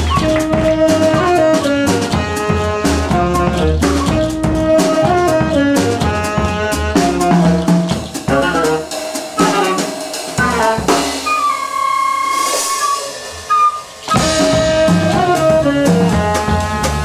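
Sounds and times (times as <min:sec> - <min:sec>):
jazz band playing: 0:00.0 - 0:17.0.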